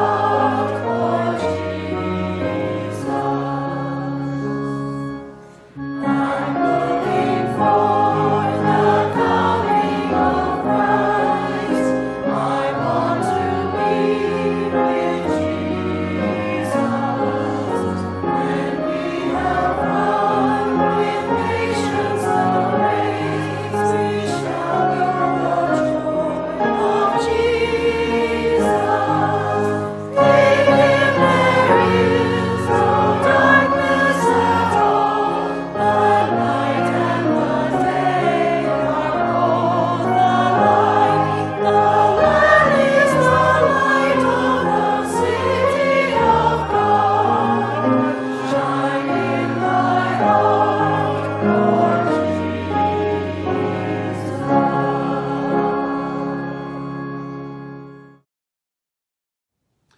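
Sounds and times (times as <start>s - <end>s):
choir singing with accompaniment: 0.0s - 58.2s.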